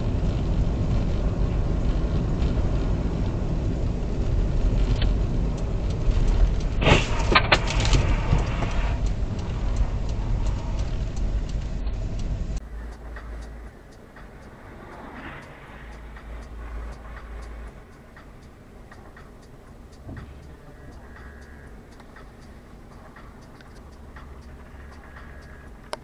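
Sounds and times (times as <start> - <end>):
car driving on snowy road: 0.0 - 26.0.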